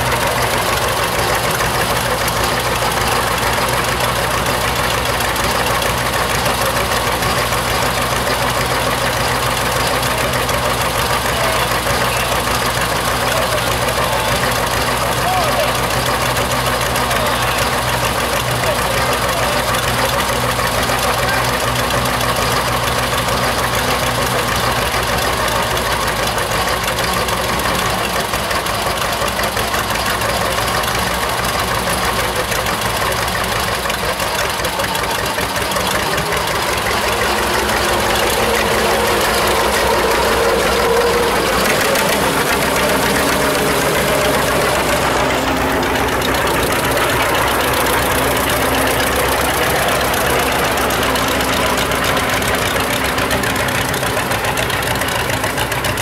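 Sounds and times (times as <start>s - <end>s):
tractor engines idling: 0.0s - 56.0s.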